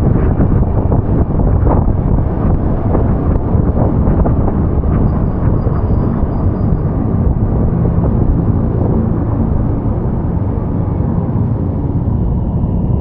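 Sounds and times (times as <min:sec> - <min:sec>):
vehicle rumbling on wet street: 0:00.0 - 0:12.9
low engine hum: 0:00.0 - 0:13.0
wind buffeting microphone: 0:00.0 - 0:13.0.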